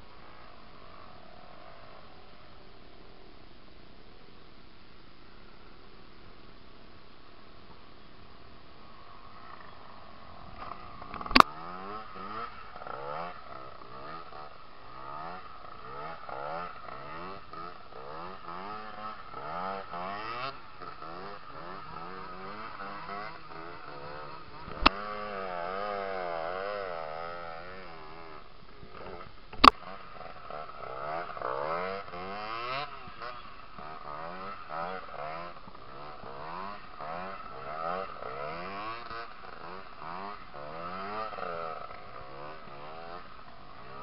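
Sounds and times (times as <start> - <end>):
motorcycle engine revving: 0.0 - 3.5, 7.3 - 44.0.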